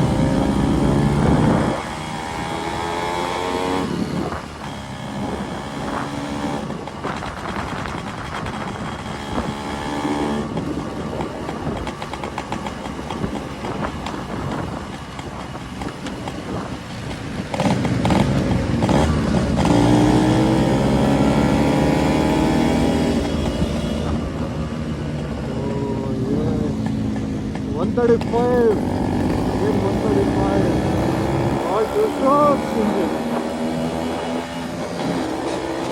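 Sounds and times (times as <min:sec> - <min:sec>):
two-stroke motorcycle engines revving: 0:00.0 - 0:35.9.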